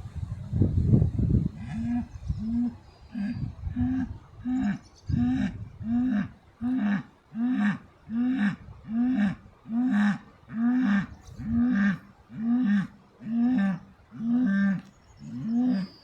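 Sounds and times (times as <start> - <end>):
cattle calling: 1.6 - 16.0.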